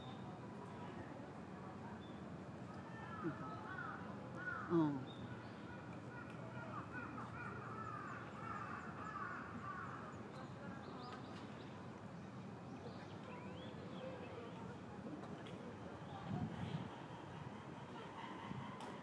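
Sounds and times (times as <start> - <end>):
steady low background noise: 0.0 - 19.0.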